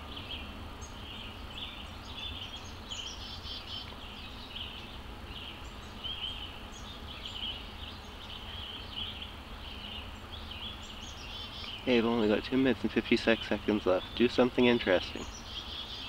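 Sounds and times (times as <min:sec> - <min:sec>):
songbirds chirping and singing: 0:00.0 - 0:16.0.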